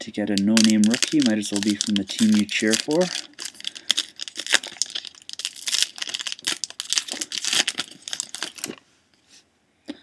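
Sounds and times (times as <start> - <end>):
plastic wrapper crinkling and tearing: 0.4 - 8.8.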